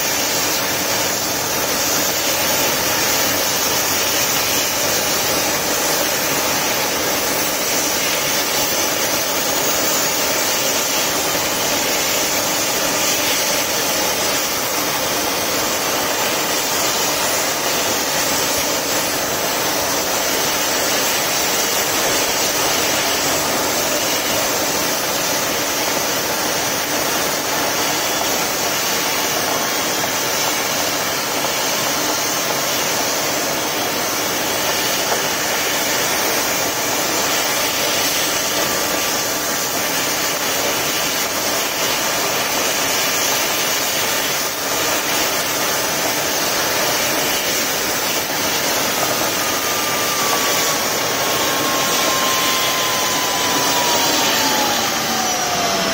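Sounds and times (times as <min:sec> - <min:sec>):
stove rushing hiss: 0:00.0 - 0:55.9.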